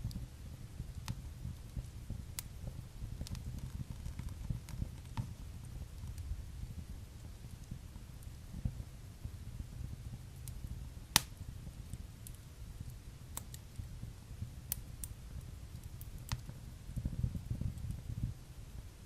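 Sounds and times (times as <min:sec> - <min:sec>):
low flutter of flames: 0:00.0 - 0:19.0
wood fire crackling and popping: 0:00.0 - 0:19.0.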